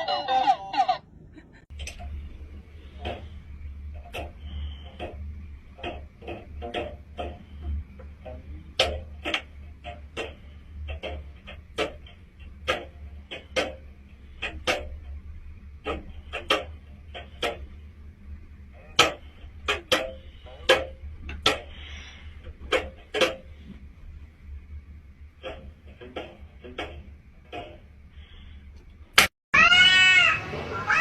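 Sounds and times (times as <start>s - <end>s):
low steady hum: 0.0s - 31.0s
sharp irregular taps: 2.9s - 29.3s.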